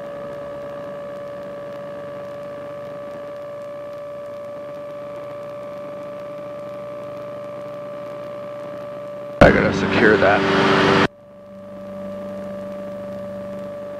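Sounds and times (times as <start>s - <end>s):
light aircraft engine drone: 0.0s - 13.9s.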